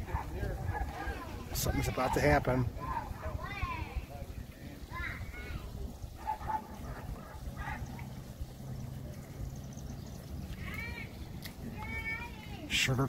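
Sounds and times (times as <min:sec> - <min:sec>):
faint crowd voices: 0:00.0 - 0:13.0.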